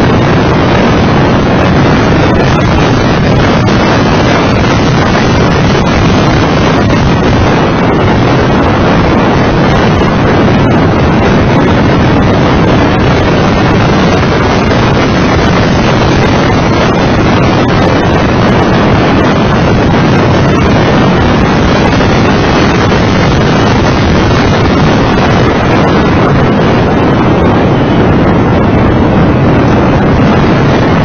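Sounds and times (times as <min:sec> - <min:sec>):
car engine and tyre noise: 0:00.0 - 0:31.0
wind buffeting microphone: 0:00.0 - 0:31.0.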